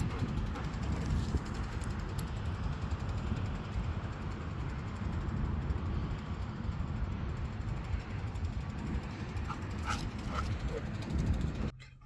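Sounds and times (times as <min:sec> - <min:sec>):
road traffic rushing: 0:00.0 - 0:11.7
wind buffeting microphone: 0:00.0 - 0:11.8.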